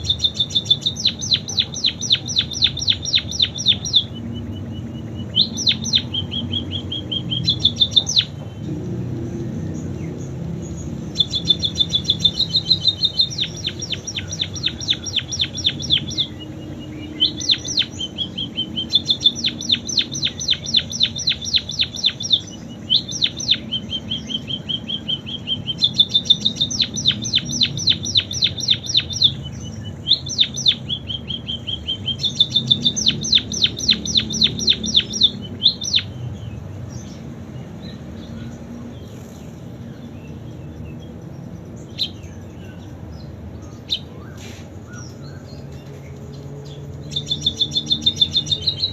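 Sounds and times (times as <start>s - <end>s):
bird singing fast trills: 0.0s - 48.9s.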